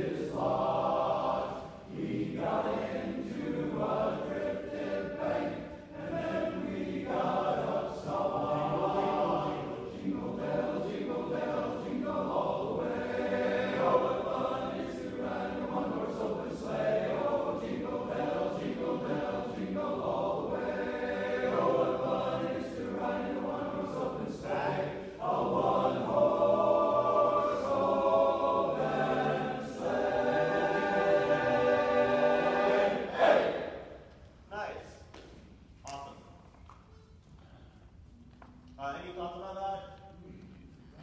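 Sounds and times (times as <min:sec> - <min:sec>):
men's chorus singing a cappella: 0:00.0 - 0:33.9.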